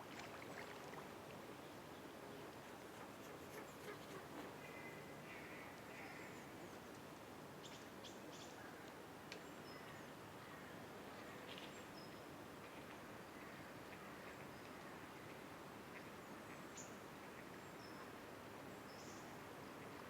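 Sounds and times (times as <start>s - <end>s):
low background hiss: 0.0s - 20.0s.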